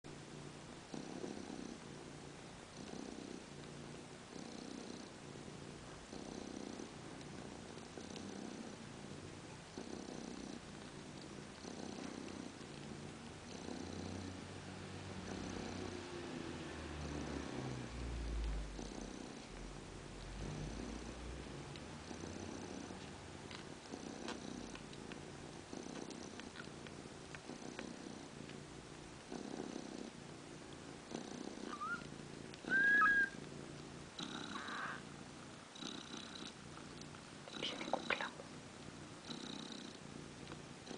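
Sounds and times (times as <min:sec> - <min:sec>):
cat purring: 0:00.1 - 0:40.9.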